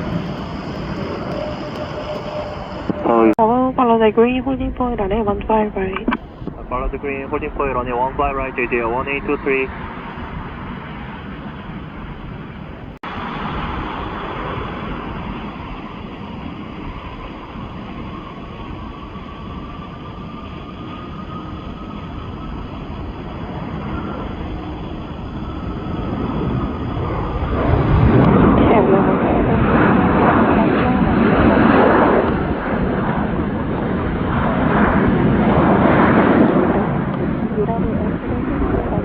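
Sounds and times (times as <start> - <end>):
jet engine rush and whine: 0.0 - 39.0.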